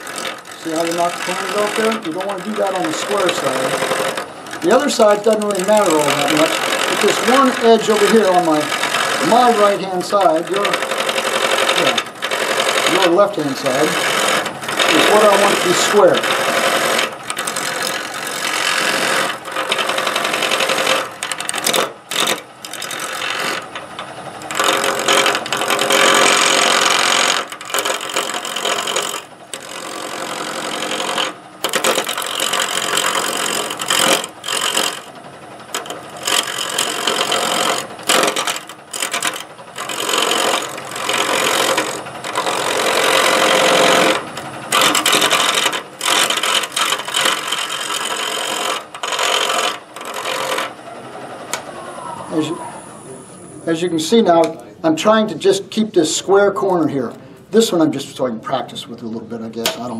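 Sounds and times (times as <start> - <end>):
chisel scraping wood: 0.0 - 50.8
wood lathe spinning: 0.0 - 58.0.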